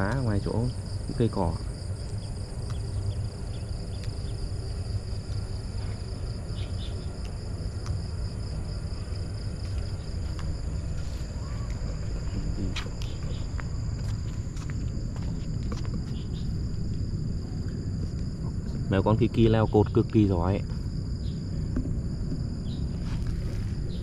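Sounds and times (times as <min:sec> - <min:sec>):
high-pitched insect chorus: 0:00.0 - 0:24.0
low rumble: 0:00.0 - 0:24.0.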